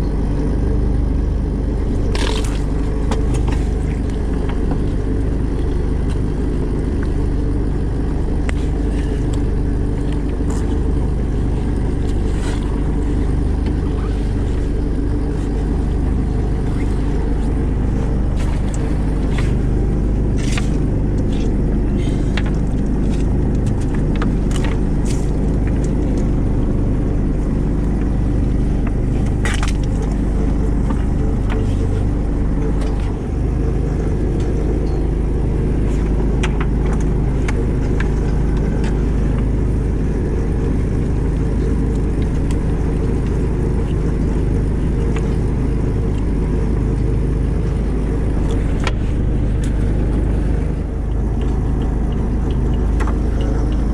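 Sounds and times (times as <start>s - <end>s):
boat engine droning: 0.0s - 53.9s.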